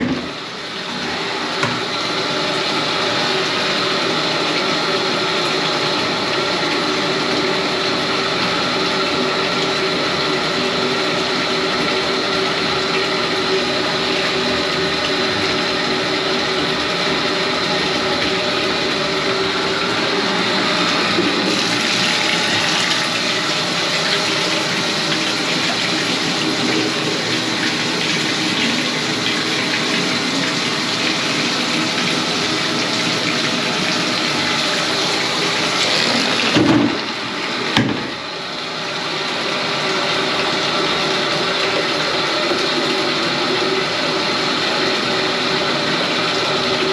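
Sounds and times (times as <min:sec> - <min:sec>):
water running through toilet: 0:00.0 - 0:46.9.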